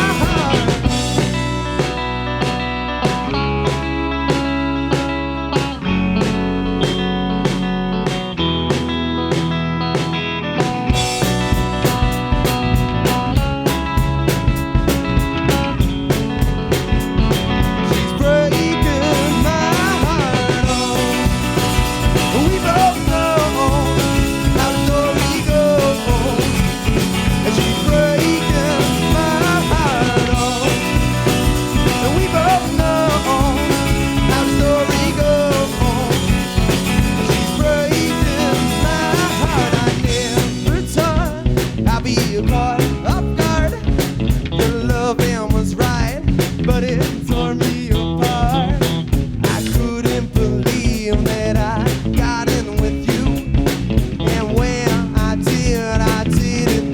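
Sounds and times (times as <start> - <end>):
rock band playing live: 0.0 - 56.9.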